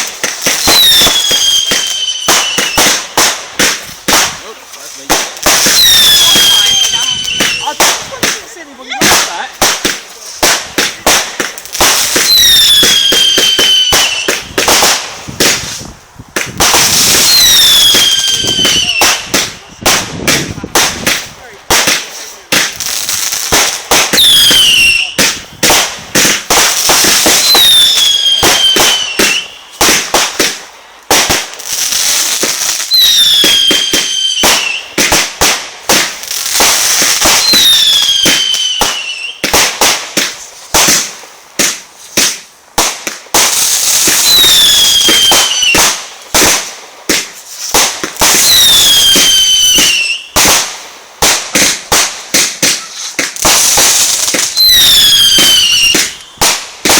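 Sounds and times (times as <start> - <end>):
fireworks banging and crackling: 0.0 - 56.9
whistling firework shots: 0.0 - 56.9.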